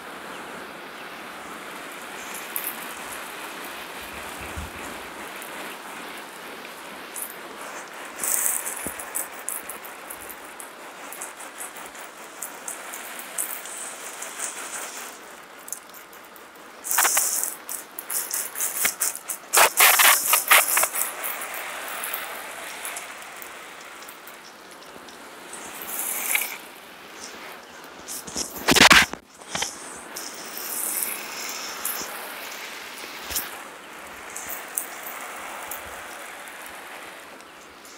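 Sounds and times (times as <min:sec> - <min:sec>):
hose spray pattering on wood: 0:00.2 - 0:37.9.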